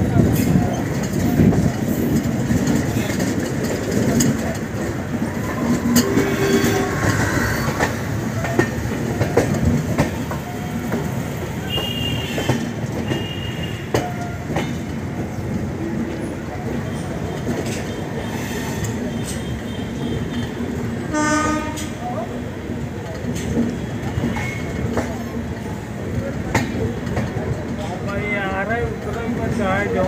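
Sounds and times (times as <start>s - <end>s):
wheels clacking over rail joints: 0.0s - 21.0s, 22.9s - 30.0s
train wheels rumbling on rail: 0.0s - 30.0s.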